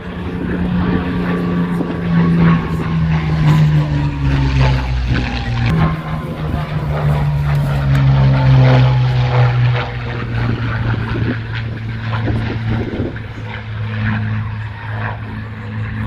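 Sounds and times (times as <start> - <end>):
propeller aircraft flying by: 0.0 - 16.0.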